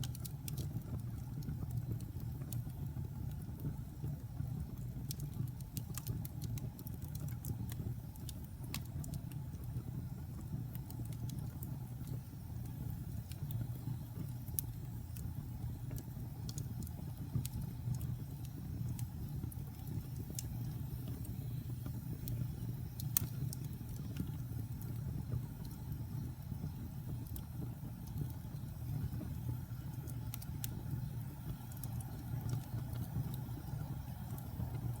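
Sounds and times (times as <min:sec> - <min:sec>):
logs crackling and popping: 0:00.0 - 0:35.0
low rumble of flames: 0:00.0 - 0:35.0.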